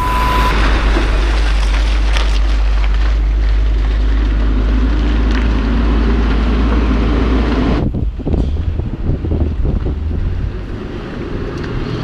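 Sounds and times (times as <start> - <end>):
heavy trucks rumbling past: 0.0 - 12.0
wind buffeting microphone: 0.0 - 12.0.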